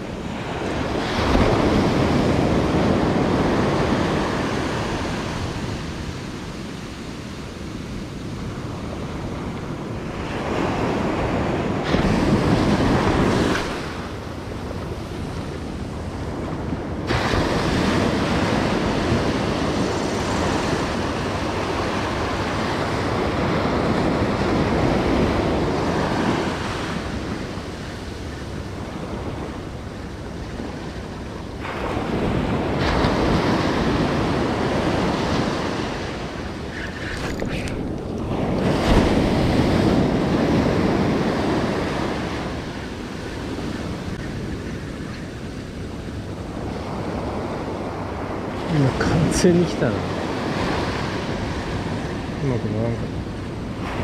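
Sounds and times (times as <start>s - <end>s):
ocean surf breaking on sand: 0.0s - 54.0s.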